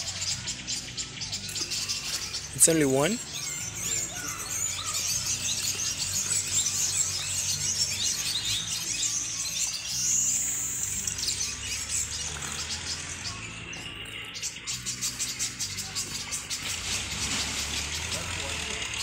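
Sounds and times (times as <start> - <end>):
otter chirping and squeaking: 0.0 - 19.0.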